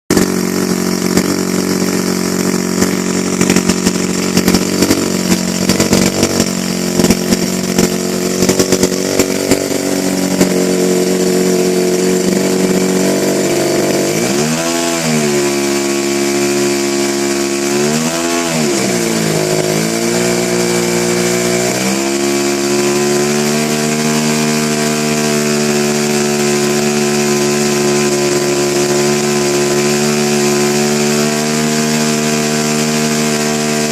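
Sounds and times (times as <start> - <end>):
small engine idling and revving: 0.1 - 33.9.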